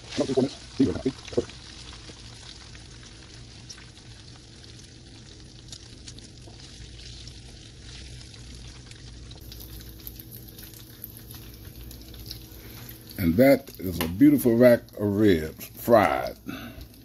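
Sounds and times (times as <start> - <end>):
oil sizzling in a frying pan: 0.0 - 17.0.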